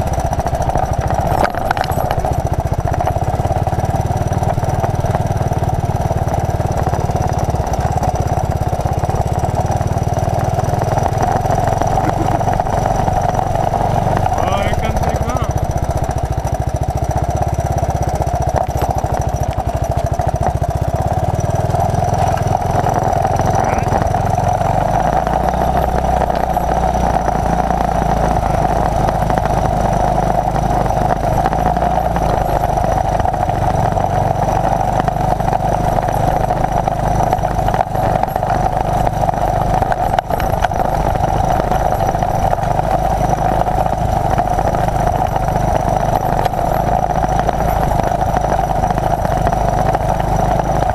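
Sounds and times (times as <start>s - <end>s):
trail bike engine running: 0.0s - 50.9s.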